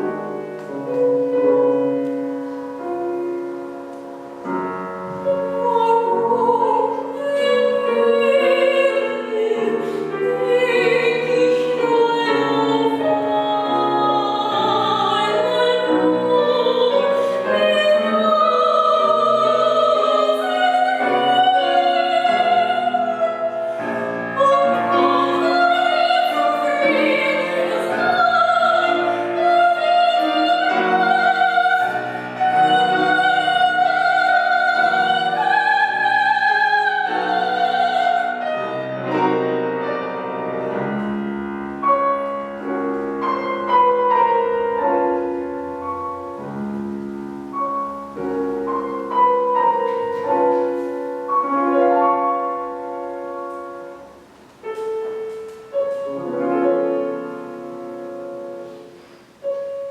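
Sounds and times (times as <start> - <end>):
piano accompaniment: 0.0 - 59.9
soprano singing: 0.0 - 59.9.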